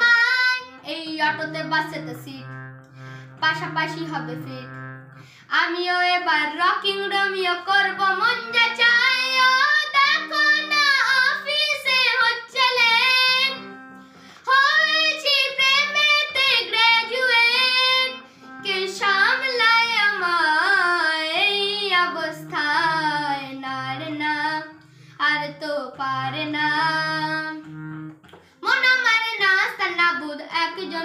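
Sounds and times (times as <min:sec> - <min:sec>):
boy singing long notes: 0:00.0 - 0:27.9
low backing music: 0:00.0 - 0:31.0.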